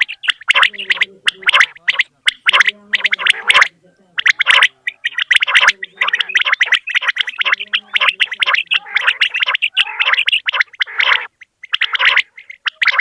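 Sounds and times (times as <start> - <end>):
quails calling: 0.0 - 13.0.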